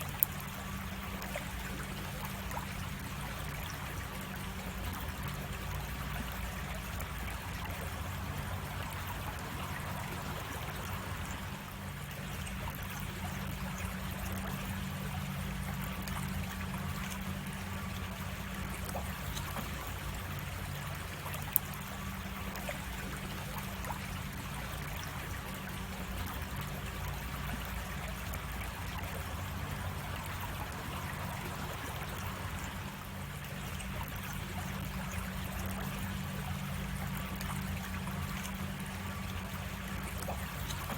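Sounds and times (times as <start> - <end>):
creek water trickling: 0.0 - 40.9.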